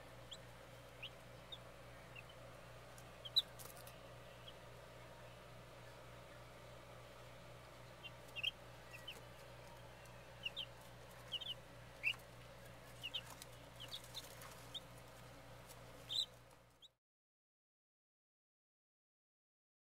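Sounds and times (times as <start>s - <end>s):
chicks peeping: 0.0s - 16.9s
low steady hum: 0.0s - 17.0s.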